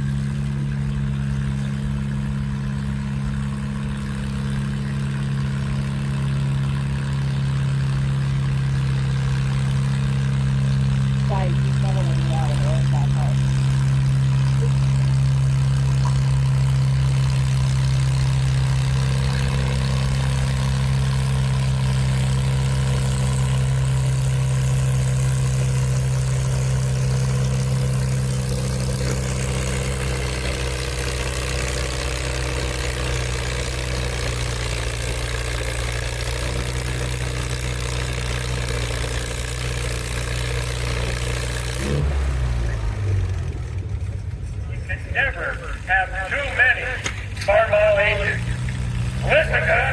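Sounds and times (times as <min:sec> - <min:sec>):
tractor engine running hard: 0:00.0 - 0:49.9.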